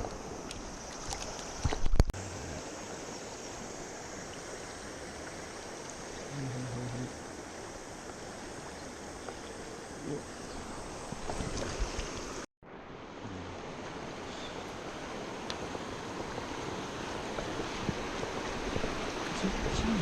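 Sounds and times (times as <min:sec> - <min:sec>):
river water rushing over riffle: 0:00.0 - 0:20.0.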